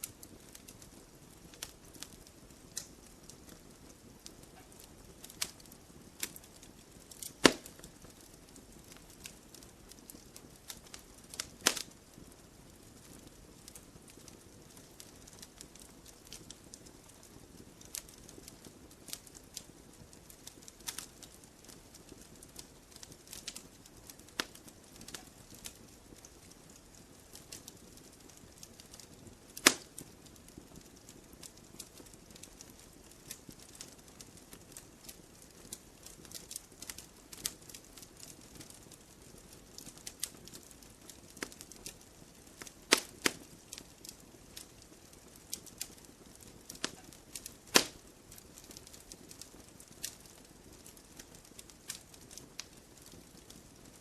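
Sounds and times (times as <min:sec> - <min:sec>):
loud fire pops: 0:00.0 - 0:53.8
wood fire crackling: 0:00.0 - 0:54.0.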